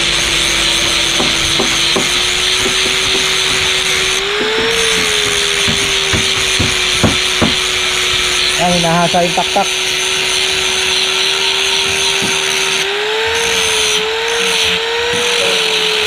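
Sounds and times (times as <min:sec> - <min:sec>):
angle grinder grinding wood: 0:00.0 - 0:16.0.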